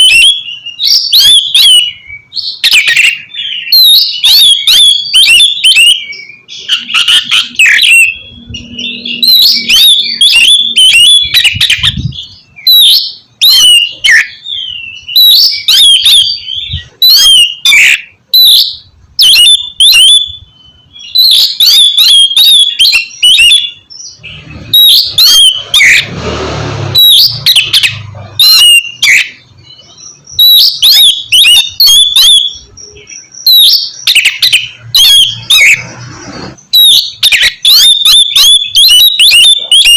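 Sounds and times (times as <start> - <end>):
bird singing whistled phrases: 0.0 - 26.0, 27.0 - 35.8, 36.7 - 39.9
bird harsh rasping call: 0.0 - 39.9.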